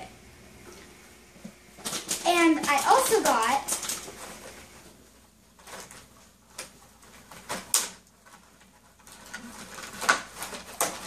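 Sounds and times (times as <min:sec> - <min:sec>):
paper packaging rustling: 0:01.8 - 0:11.0.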